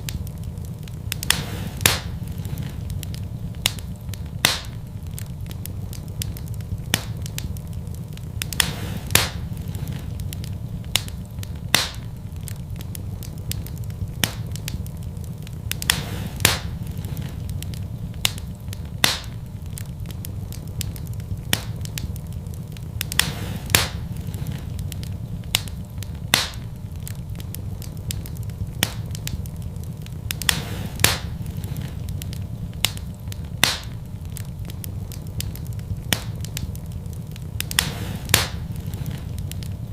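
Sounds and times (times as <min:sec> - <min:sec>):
fire popping: 0:00.0 - 0:39.9
low fire rumble: 0:00.0 - 0:39.9
wood fire crackling: 0:00.0 - 0:39.9.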